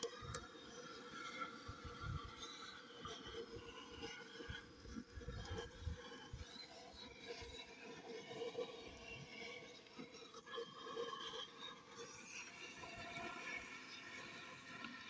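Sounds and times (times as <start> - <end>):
cutting torch flame hissing: 0.0 - 15.0.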